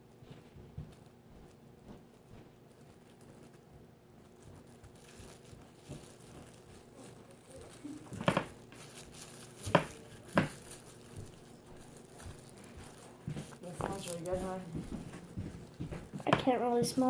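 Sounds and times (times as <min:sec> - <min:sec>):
plastic wrap crinkling: 0:02.0 - 0:17.0.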